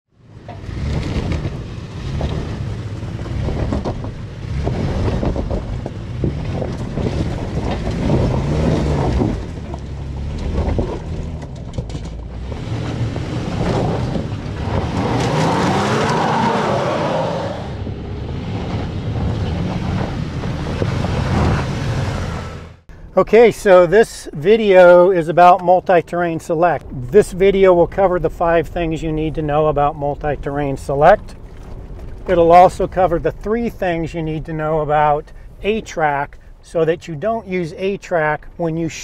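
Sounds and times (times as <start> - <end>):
suv engine running under load: 0.2 - 23.5, 24.4 - 39.0.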